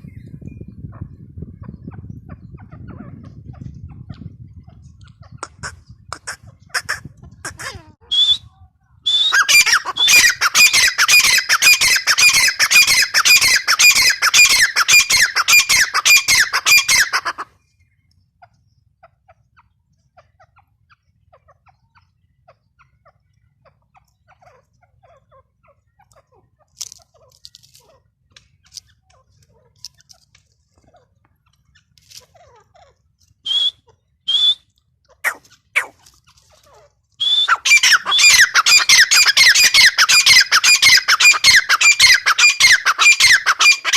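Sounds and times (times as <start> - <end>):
francolin calling rapidly: 0.0 - 29.8, 31.4 - 43.9.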